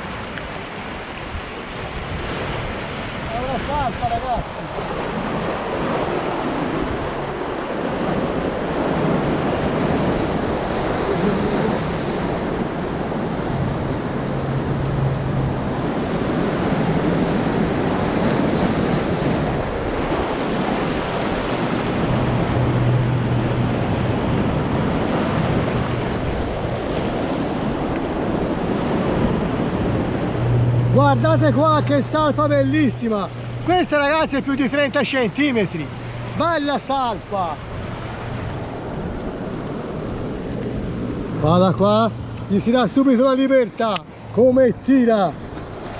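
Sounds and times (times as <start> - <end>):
wind rumbling on microphone: 0.0 - 43.0
surf washing over rocks: 0.0 - 45.9.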